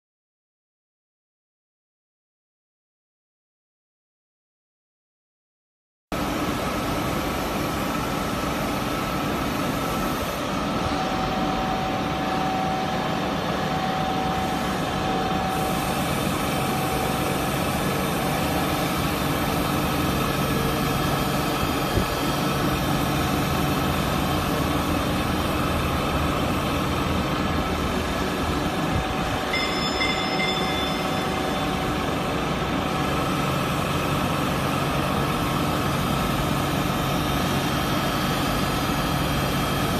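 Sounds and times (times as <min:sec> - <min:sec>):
grinding machine droning and whining: 0:06.2 - 0:39.9.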